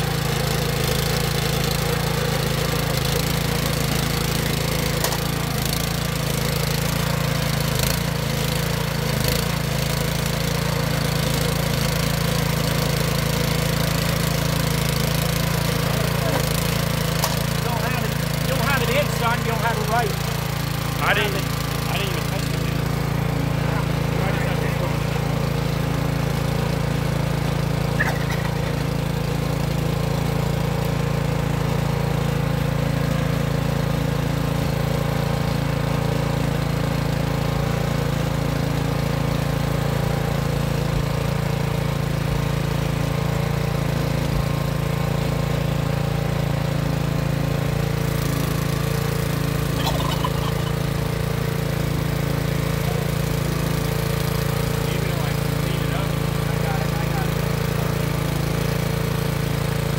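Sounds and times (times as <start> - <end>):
small gasoline engine idling: 0.0 - 59.9.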